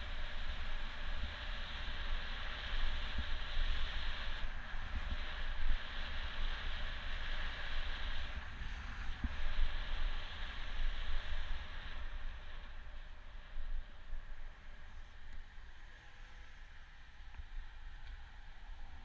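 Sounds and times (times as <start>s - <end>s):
steady hiss: 0.0s - 19.0s
wind buffeting microphone: 0.0s - 19.0s.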